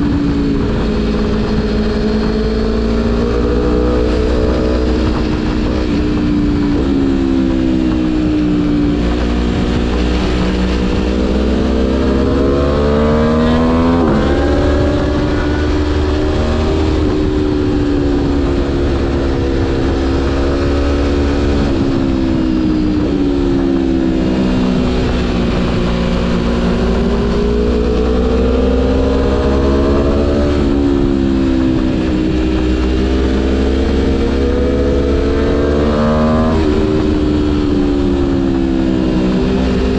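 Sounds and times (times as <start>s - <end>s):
motorcycle engine accelerating: 0.0s - 39.9s
wind on microphone: 0.0s - 39.9s.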